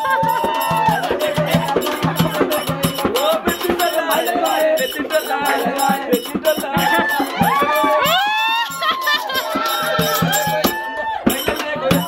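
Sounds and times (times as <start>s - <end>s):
folk music with rattling beat: 0.0s - 12.0s
voices and crowd noise: 0.0s - 12.0s.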